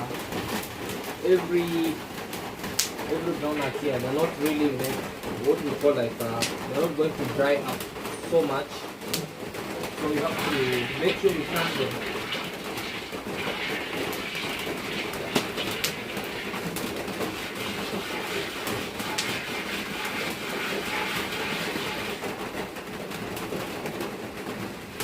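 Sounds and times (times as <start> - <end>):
rain on a metal roof: 0.0 - 25.0.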